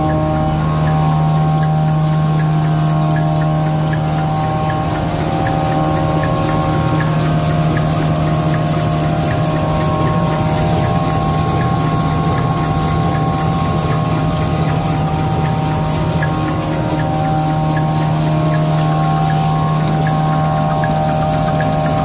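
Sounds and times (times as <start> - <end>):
fast high ticking: 0.0 - 22.0
paper towel machine running: 0.0 - 22.0.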